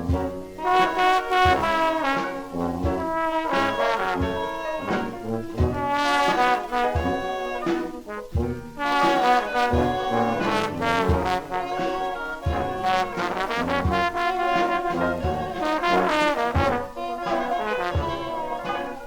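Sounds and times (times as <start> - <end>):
jazz band playing: 0.0 - 19.0
trombone: 0.0 - 19.0
trumpet: 0.0 - 19.0
low beat: 1.5 - 18.5.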